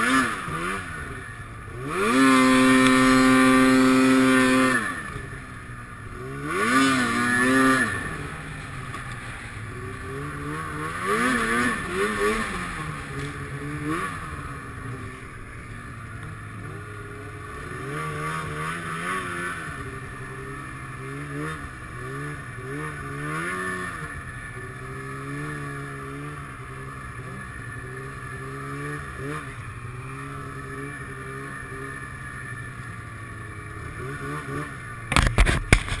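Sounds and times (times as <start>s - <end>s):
snowmobile engine revving: 0.0s - 36.0s.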